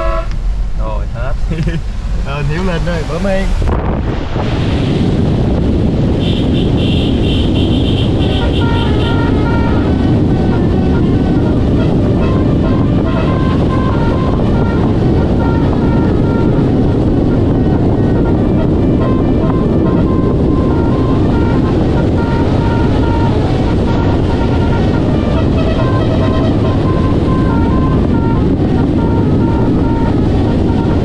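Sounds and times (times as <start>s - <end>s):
road traffic rumble: 0.0s - 31.0s
wind buffeting microphone: 0.0s - 31.0s.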